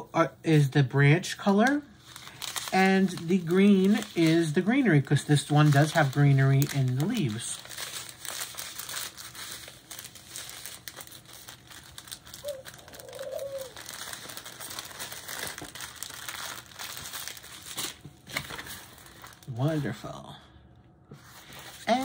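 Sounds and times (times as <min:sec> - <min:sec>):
plastic bags crinkling: 0:01.6 - 0:20.3.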